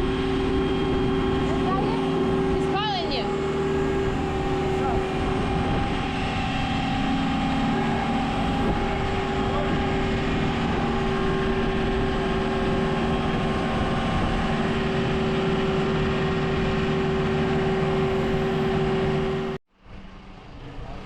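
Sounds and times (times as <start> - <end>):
diesel engine humming: 0.0 - 21.0.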